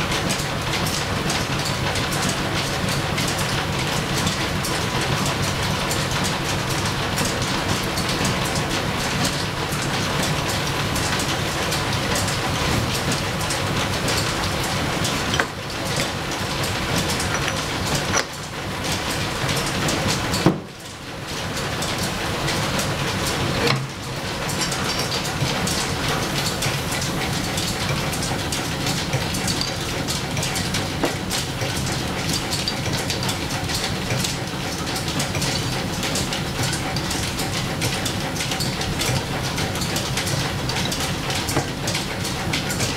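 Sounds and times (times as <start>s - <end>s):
lathe and line shaft clattering: 0.0s - 42.9s.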